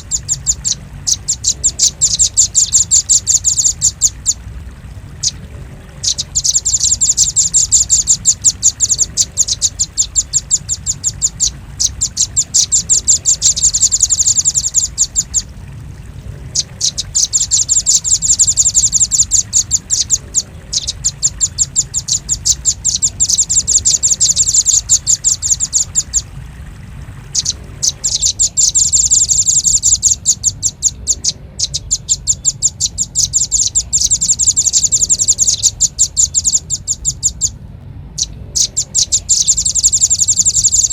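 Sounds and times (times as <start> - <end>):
sharp high bird chattering: 0.0 - 4.4, 6.0 - 15.5, 16.6 - 26.2, 27.3 - 37.6, 38.2 - 40.9
steady low hum: 0.0 - 40.9.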